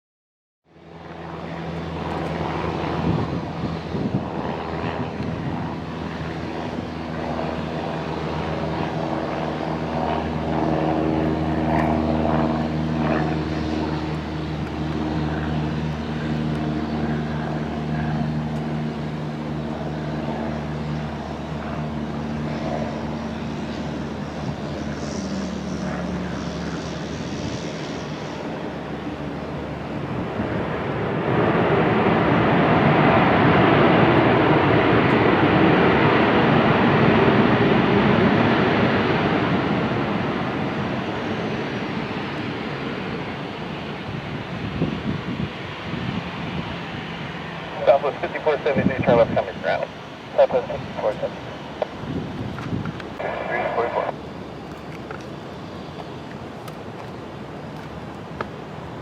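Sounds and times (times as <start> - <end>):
aircraft engines humming: 0.6 - 59.0.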